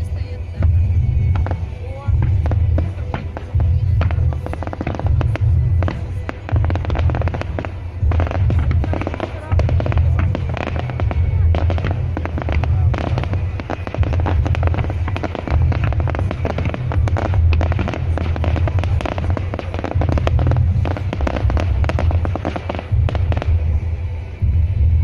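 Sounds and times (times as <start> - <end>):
deep rumble: 0.0 - 25.0
fireworks crackling: 0.0 - 25.0.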